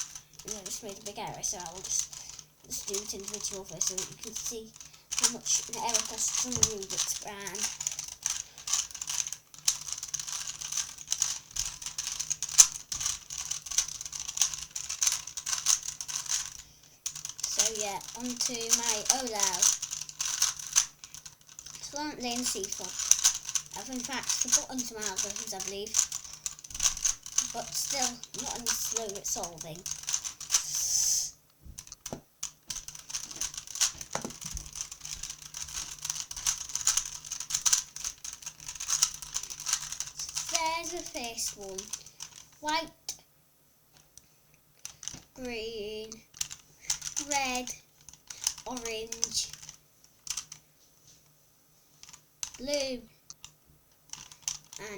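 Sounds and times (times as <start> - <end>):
puzzle cube clicking: 0.0 - 42.9, 46.1 - 50.6, 52.1 - 54.9.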